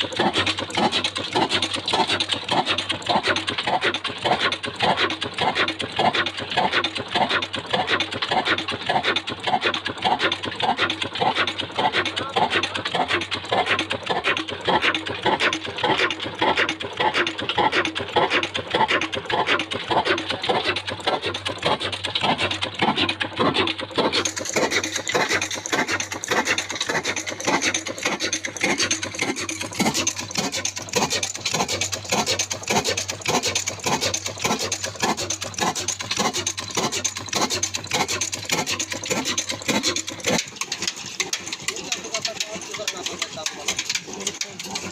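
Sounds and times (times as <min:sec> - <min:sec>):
single-cylinder diesel engine running: 0:00.0 - 0:44.9.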